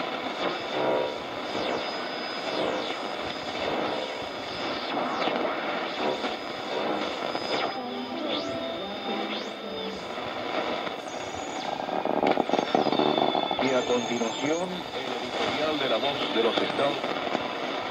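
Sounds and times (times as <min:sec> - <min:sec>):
faint broken radio signal: 0:00.0 - 0:17.9
radio static: 0:00.0 - 0:17.9.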